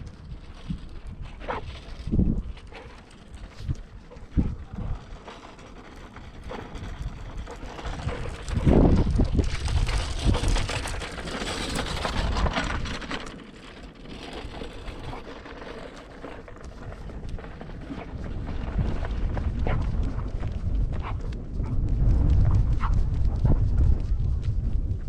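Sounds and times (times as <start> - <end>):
low rumbles: 0.0 - 25.0
wind buffeting microphone: 0.0 - 25.0.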